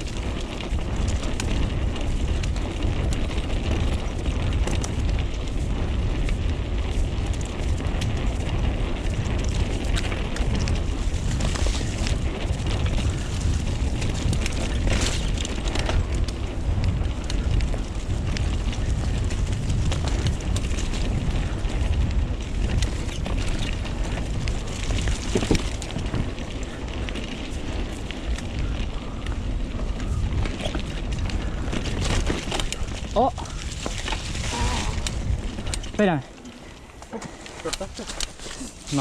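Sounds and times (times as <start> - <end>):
bike clicks and rattles: 0.0 - 39.0
tyres rolling on dirt trail: 0.0 - 39.0
wind buffeting microphone: 0.0 - 39.0.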